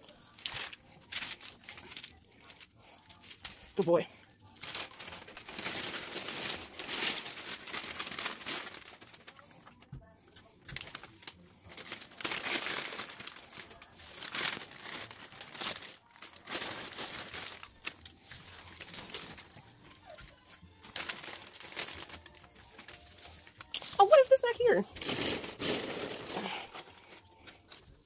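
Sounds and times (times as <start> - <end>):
paper crinkling and rustling: 0.0 - 28.0.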